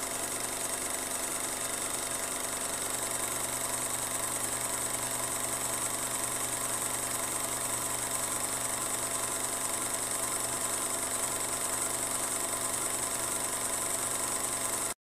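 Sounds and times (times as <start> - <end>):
mechanical hum and whir: 0.0 - 15.0.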